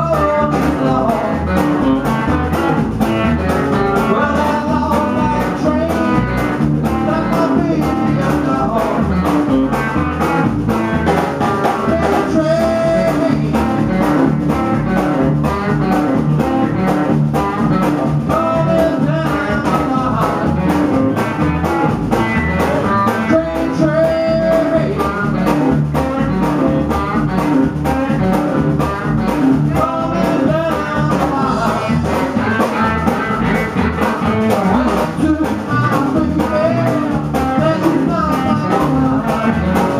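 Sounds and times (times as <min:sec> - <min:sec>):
man singing: 0:00.0 - 0:21.5, 0:22.2 - 0:39.9
drum kit beat: 0:00.0 - 0:39.9
guitar: 0:00.0 - 0:39.9
upright double bass: 0:00.0 - 0:39.9.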